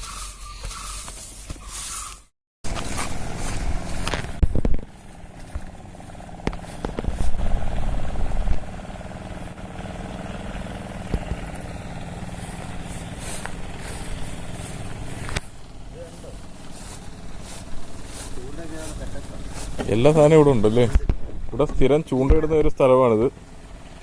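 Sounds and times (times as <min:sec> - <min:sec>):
vehicle engine running: 0:00.0 - 0:24.0
low rumbles: 0:02.6 - 0:24.0.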